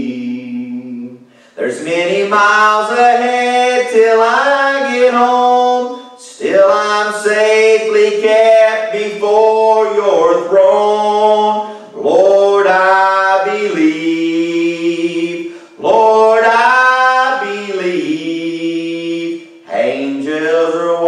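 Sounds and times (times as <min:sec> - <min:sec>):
man singing gospel song: 0:00.0 - 0:21.0.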